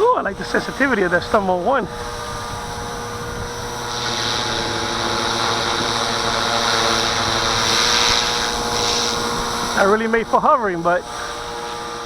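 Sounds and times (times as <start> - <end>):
rc helicopter motor whine: 0.0 - 12.0
wind on microphone: 0.0 - 12.0.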